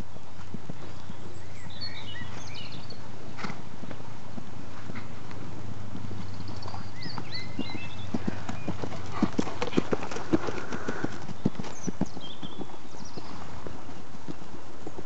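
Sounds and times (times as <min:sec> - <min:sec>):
hooves clip-clopping: 0:00.0 - 0:15.0
steady low hum: 0:00.0 - 0:15.0.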